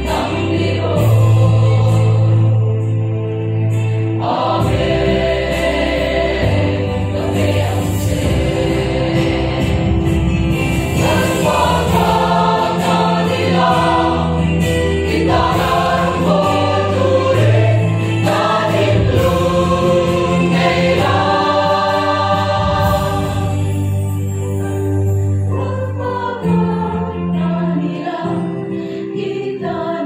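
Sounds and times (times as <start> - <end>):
mixed choir singing: 0.0 - 24.1, 25.5 - 30.0.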